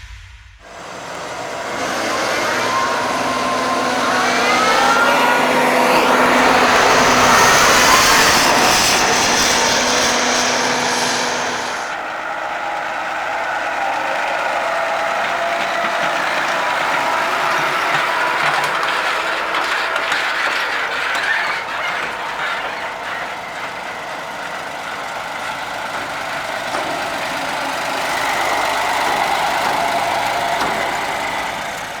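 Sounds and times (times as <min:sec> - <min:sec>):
farm machinery engine running: 0:00.6 - 0:32.0.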